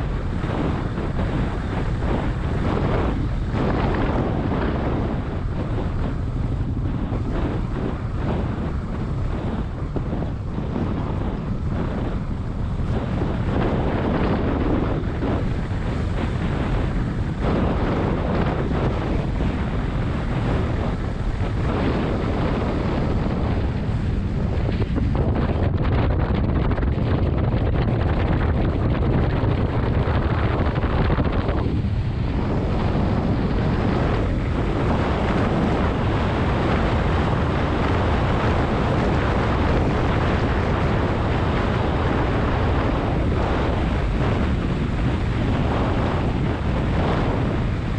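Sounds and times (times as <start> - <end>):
engine and road noise: 0.0 - 47.9
wind rushing over microphone: 0.0 - 47.9.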